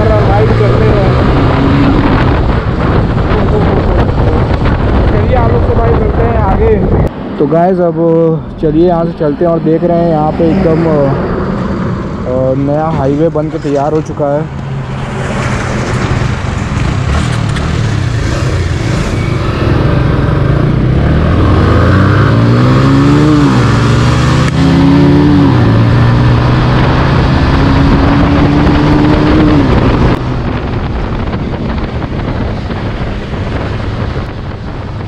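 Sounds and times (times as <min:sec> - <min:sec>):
motorcycle engine accelerating: 0:00.0 - 0:07.1, 0:08.7 - 0:35.0
wind rush: 0:00.0 - 0:35.0.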